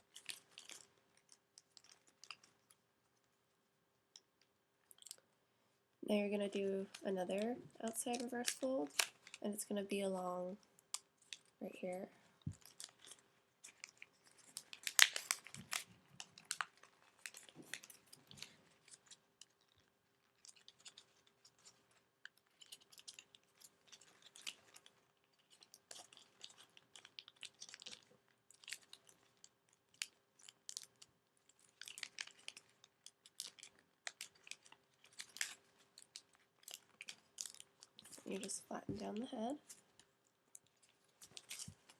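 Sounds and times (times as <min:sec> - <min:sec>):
paper crinkling: 0:00.0 - 0:03.3, 0:06.6 - 0:09.7, 0:10.9 - 0:41.9.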